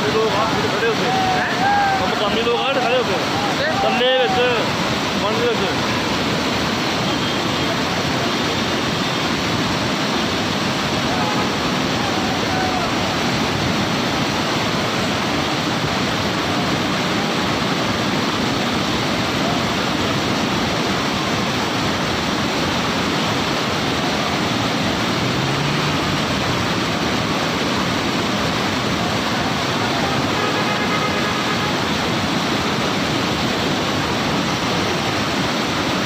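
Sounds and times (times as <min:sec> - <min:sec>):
fast-flowing water rushing: 0:00.0 - 0:36.0.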